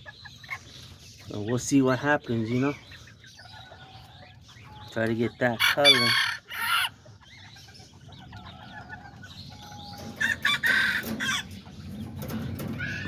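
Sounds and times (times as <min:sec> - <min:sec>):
chickens and roosters clucking: 0:00.0 - 0:13.0.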